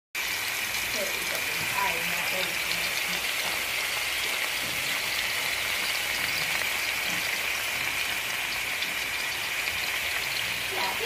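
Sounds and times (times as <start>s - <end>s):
chicken sizzling in hot oil: 0.2s - 11.0s.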